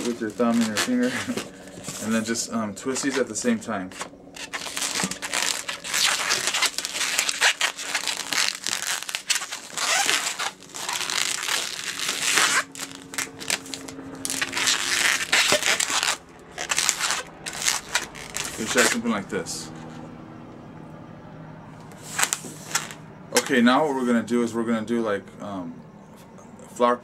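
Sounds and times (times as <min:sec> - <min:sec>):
balloons squeaking and rubbing: 0:00.0 - 0:20.0, 0:21.9 - 0:23.6.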